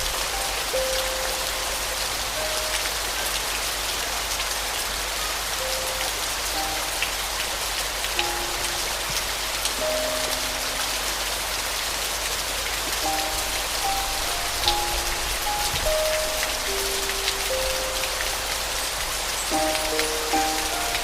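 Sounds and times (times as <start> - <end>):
soft piano notes: 0.0 - 21.0
steady rain falling: 0.0 - 21.0.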